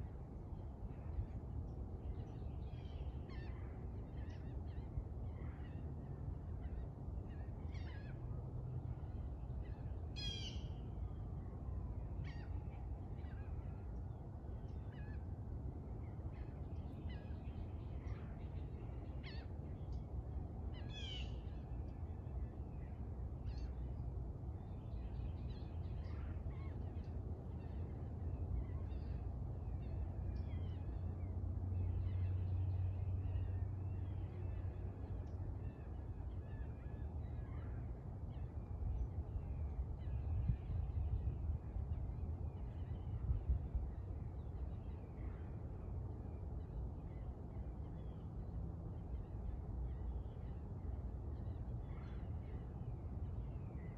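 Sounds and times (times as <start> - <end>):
low background rumble: 0.0 - 53.9.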